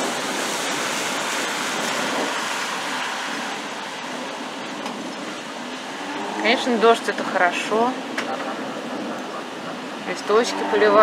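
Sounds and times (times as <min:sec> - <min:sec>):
rain on leaves and pavement: 0:00.0 - 0:11.0.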